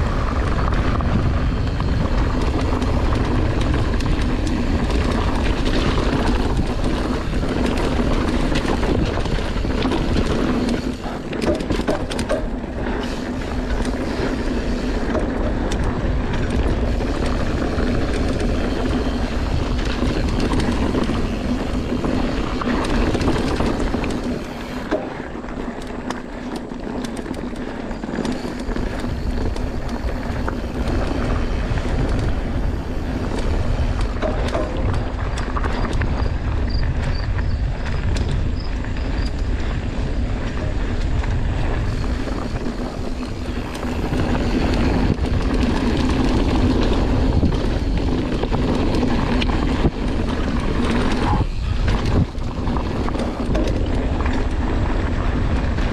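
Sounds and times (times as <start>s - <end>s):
bike clicking and rattling: 0.0s - 55.9s
bike tyres rolling over dirt: 0.0s - 55.9s
wind rushing over microphone: 0.0s - 55.9s.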